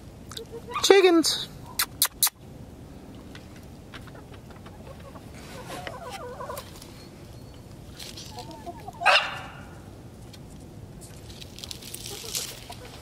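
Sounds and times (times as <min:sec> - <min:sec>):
hens clucking: 0:00.3 - 0:09.8, 0:11.8 - 0:13.0.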